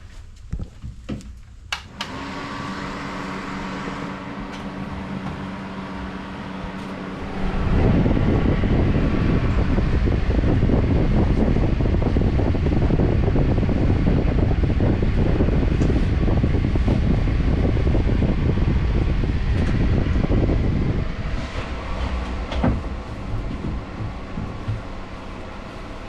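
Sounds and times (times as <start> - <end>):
fan rushing noise: 1.4 - 26.0.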